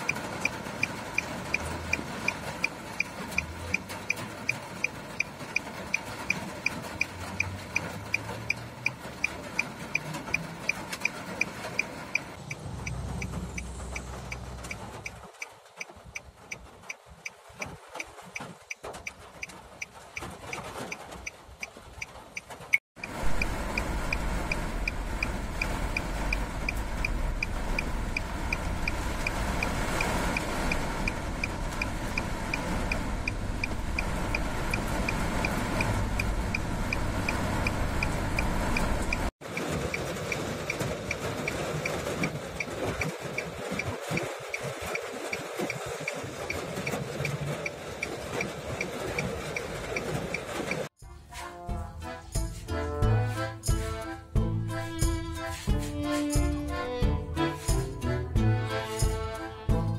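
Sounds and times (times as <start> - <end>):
rain on car roof: 0.0 - 51.0.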